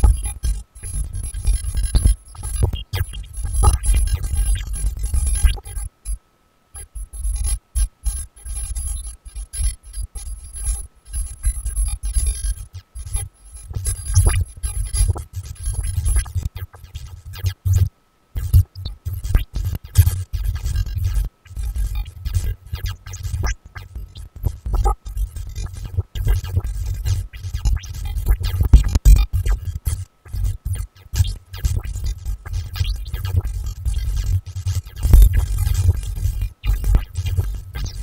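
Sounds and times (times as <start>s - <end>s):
glitchy electronic noise music: 0.0s - 5.8s, 10.6s - 38.0s.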